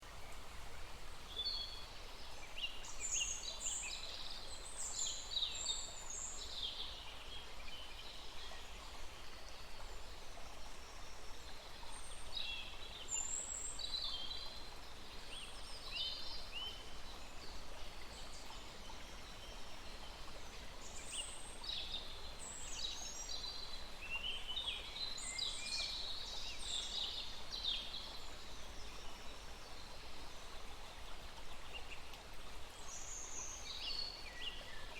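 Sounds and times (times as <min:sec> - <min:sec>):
forest stream rushing: 0:00.0 - 0:34.9.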